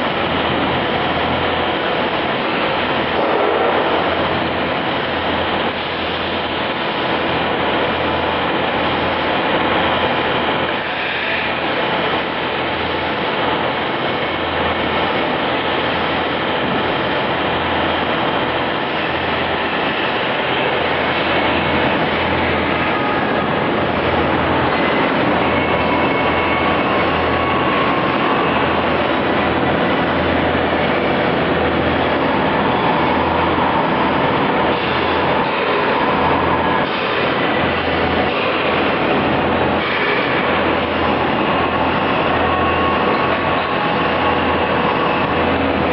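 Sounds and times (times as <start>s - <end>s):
cnc machine running: 0.0s - 45.9s.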